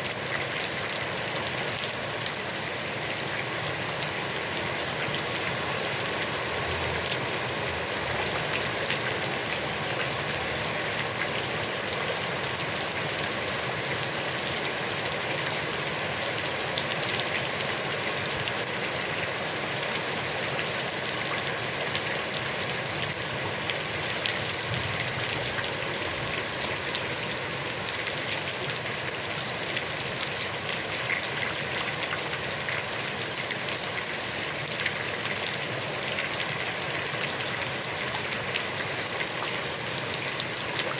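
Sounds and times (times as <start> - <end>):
heavy rain on pond water: 0.0 - 40.9.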